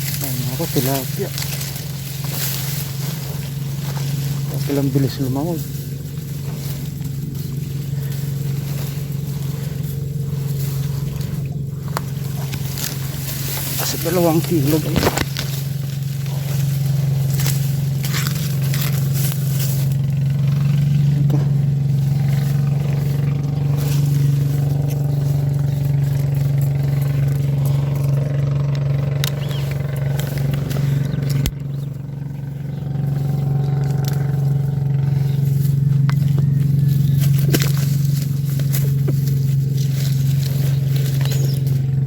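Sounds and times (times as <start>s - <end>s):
low engine hum: 0.0s - 42.0s.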